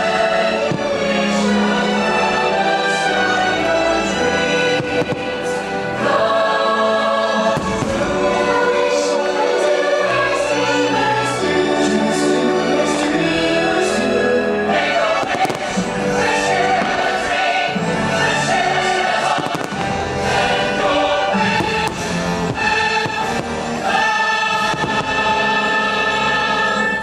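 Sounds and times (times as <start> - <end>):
fireworks bursting: 0.0 - 6.2, 7.2 - 10.8, 14.7 - 27.0
orchestral music with choir: 0.0 - 27.0.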